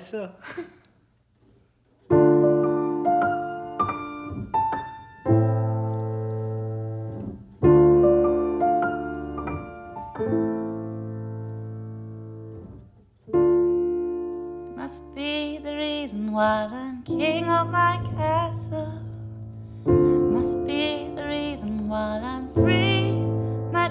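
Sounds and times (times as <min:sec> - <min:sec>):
single piano melody notes: 0:02.0 - 0:23.9
piano chords ringing: 0:02.1 - 0:23.9.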